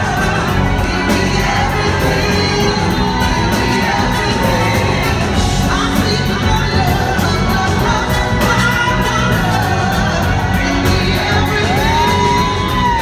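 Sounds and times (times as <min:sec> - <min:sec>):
live band playing: 0:00.0 - 0:13.0
woman singing into a microphone: 0:00.0 - 0:13.0.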